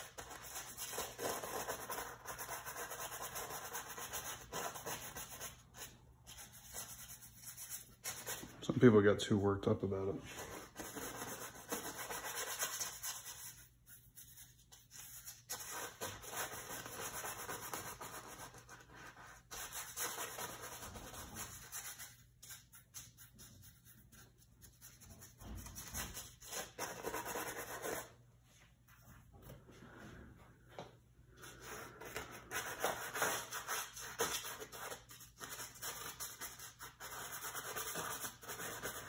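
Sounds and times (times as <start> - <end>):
paintbrush scratching on canvas: 0.0 - 8.6, 10.3 - 28.2, 31.5 - 39.0.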